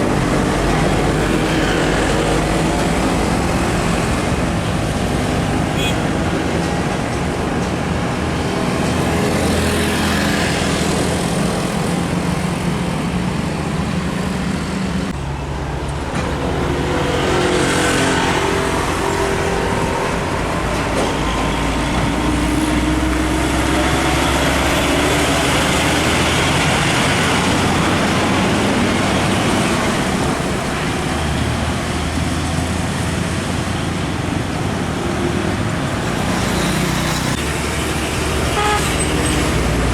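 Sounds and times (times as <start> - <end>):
diesel trucks passing: 0.0 - 39.9.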